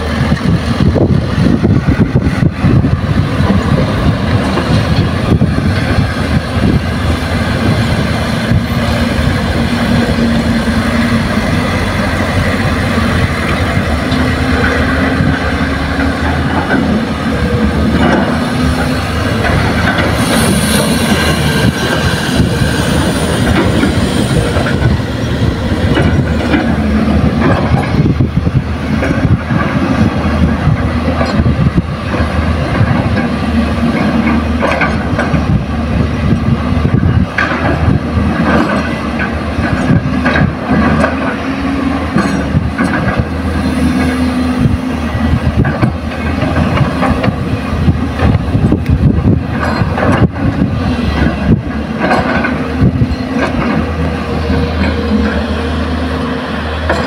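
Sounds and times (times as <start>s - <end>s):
heavy diesel engines rumbling: 0.0s - 57.0s
machinery clanks and knocks: 0.3s - 55.9s, 56.7s - 57.0s.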